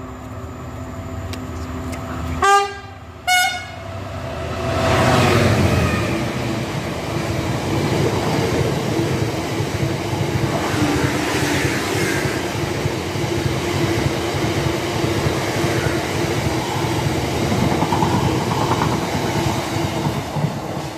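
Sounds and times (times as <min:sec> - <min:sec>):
freight train wheels rumbling: 0:00.0 - 0:20.9.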